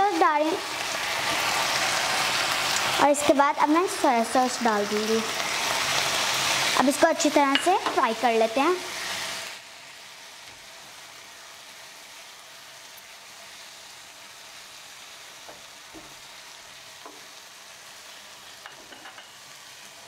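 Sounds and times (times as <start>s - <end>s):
food sizzling in frying pan: 0.0s - 20.0s.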